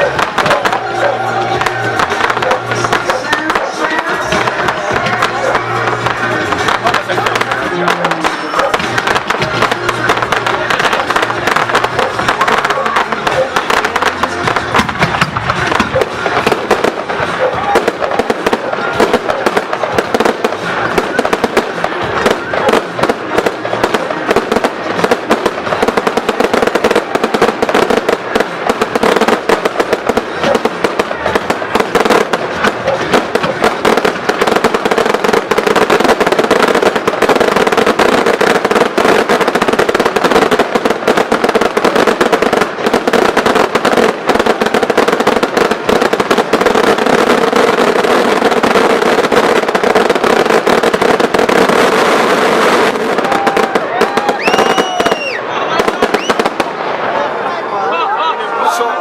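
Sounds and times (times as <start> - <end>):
fireworks bangs and crackles: 0.0 - 57.6.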